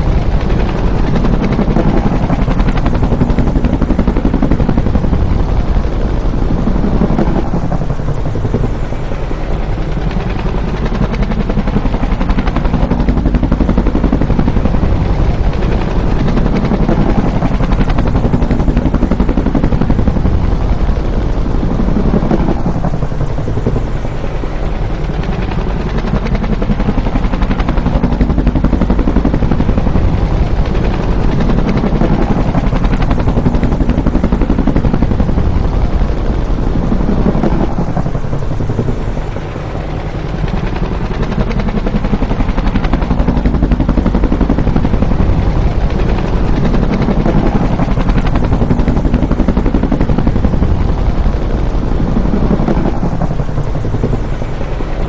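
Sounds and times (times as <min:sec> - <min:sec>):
helicopter passing: 0:00.0 - 0:55.0.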